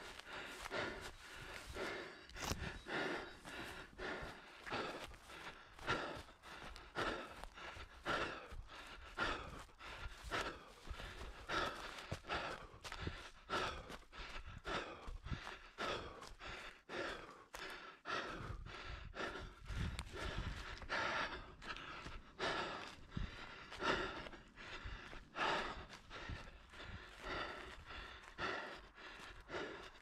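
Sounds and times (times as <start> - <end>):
runner breathing hard: 0.0 - 30.0.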